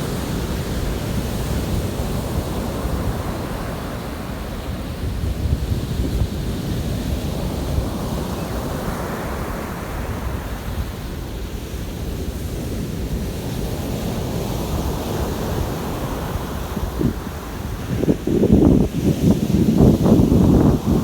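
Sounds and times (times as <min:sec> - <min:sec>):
sea waves washing in: 0:00.0 - 0:21.0
wind buffeting microphone: 0:00.0 - 0:21.0.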